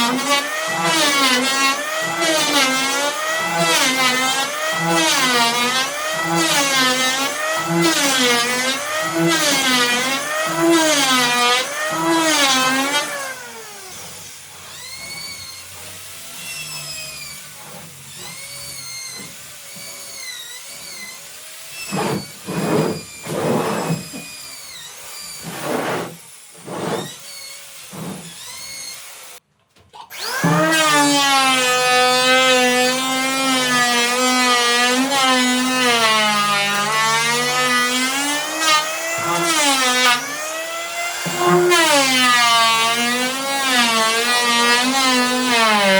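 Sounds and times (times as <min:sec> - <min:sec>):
power tool cutting wood: 0:00.0 - 0:29.4, 0:30.0 - 0:45.9.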